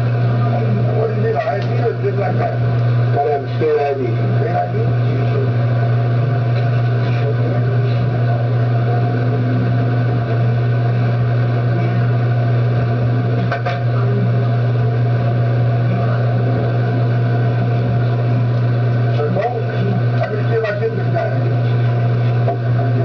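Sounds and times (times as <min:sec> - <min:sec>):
loud low hum: 0:00.0 - 0:23.0
muffled talk: 0:00.0 - 0:23.0.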